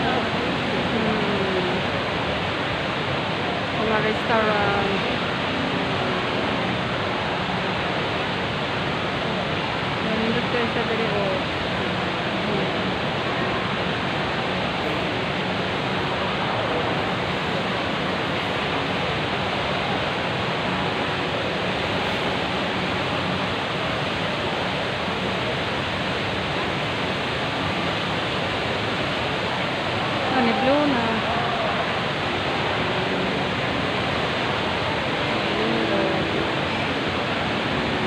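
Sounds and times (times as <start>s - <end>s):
waterfall pouring into pool: 0.0s - 38.0s.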